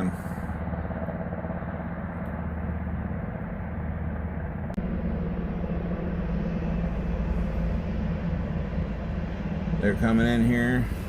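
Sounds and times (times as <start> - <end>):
helicopter rotors droning: 0.0 - 11.0.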